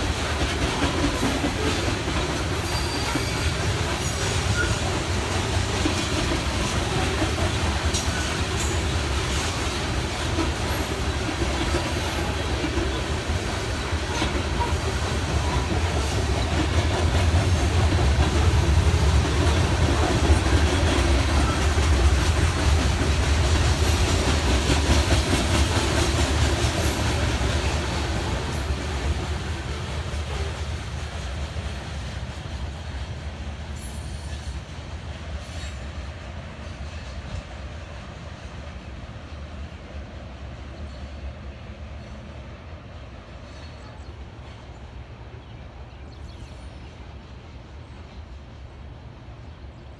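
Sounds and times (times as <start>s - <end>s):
freight train wheels rumbling on rail: 0.0s - 49.9s.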